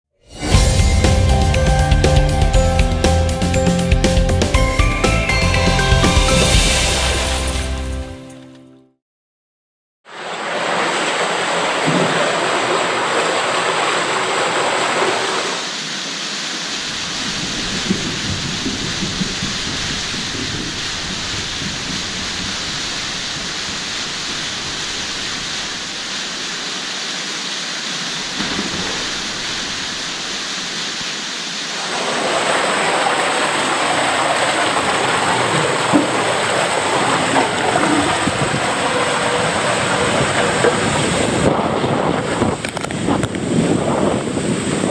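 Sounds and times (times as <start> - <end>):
water rushing down slide: 0.2 - 7.8, 10.1 - 44.9.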